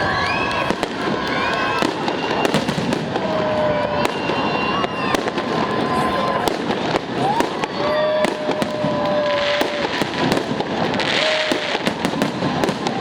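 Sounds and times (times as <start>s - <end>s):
fireworks bangs and crackles: 0.0s - 13.0s
whistling fireworks: 0.0s - 13.0s.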